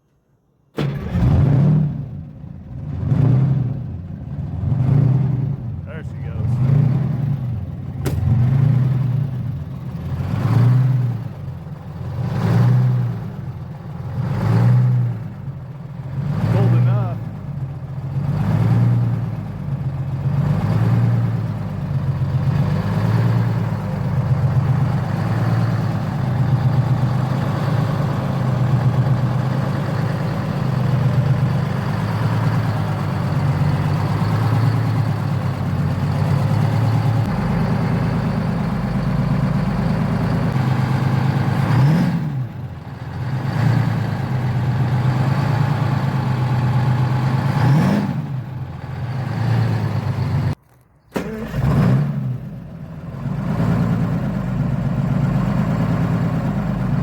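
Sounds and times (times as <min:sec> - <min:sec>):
engine revs blipped: 0:00.8 - 0:17.4, 0:20.2 - 0:57.0
truck engine idling unevenly: 0:02.0 - 0:51.6, 0:52.4 - 0:57.0.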